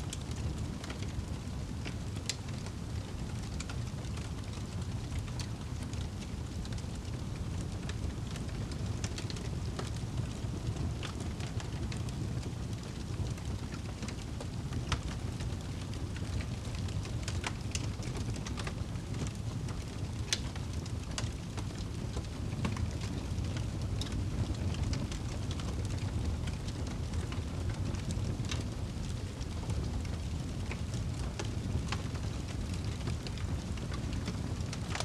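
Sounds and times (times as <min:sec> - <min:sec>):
campfire crackling and popping: 0:00.1 - 0:35.0.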